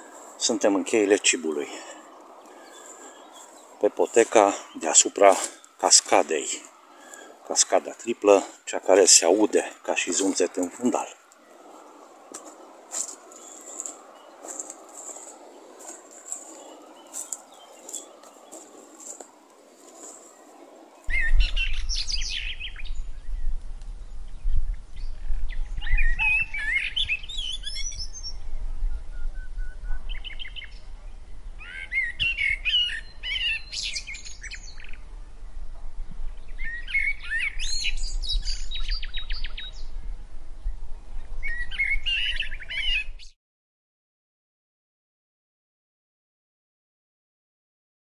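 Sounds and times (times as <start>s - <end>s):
songbirds singing: 0.0s - 35.6s, 36.2s - 43.3s.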